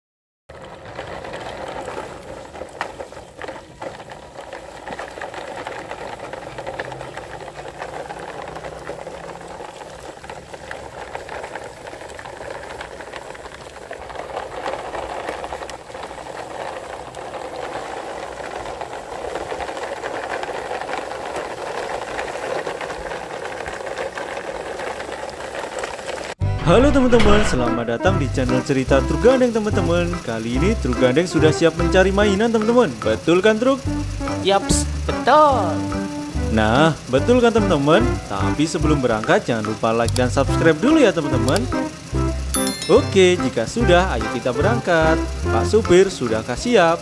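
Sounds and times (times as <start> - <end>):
toy trucks rattling over concrete: 0.5 - 47.0.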